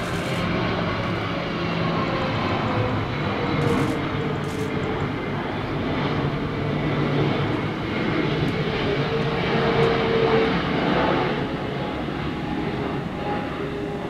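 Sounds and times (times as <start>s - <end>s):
jet engines of passing airliner: 0.0s - 14.0s.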